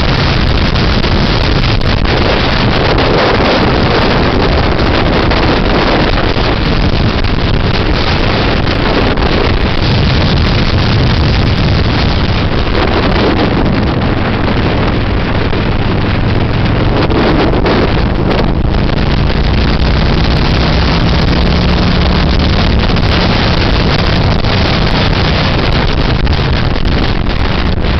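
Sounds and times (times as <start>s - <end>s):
motorcycle engine: 0.0s - 27.9s
wind rushing on microphone: 0.0s - 27.9s.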